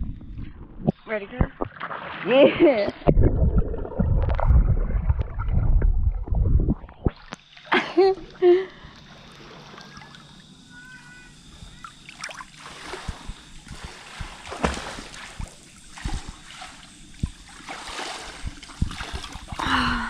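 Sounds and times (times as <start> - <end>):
pool water sloshing and splashing: 1.6 - 6.3, 6.9 - 10.6, 11.5 - 19.8.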